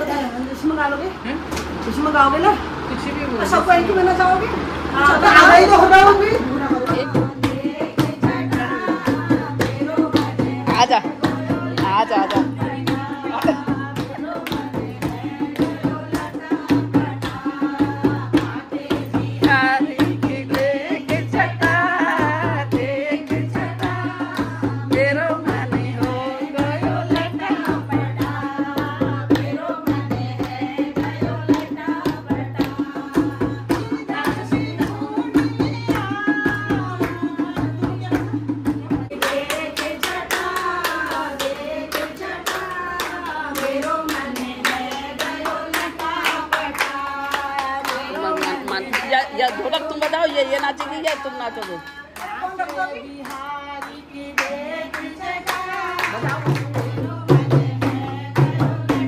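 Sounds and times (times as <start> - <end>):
women singing devotional song: 0.0 - 59.0
hand drum: 5.2 - 51.2, 55.9 - 59.0
rhythmic hand-clapping: 6.2 - 59.0.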